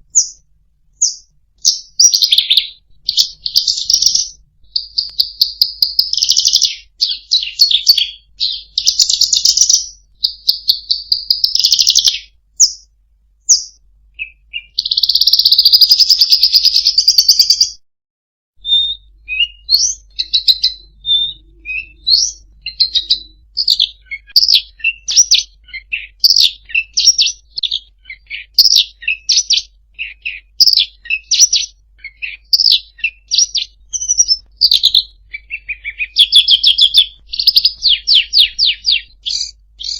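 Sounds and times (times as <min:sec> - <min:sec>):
songbird song with trills: 0:00.0 - 0:17.8, 0:18.6 - 0:39.9.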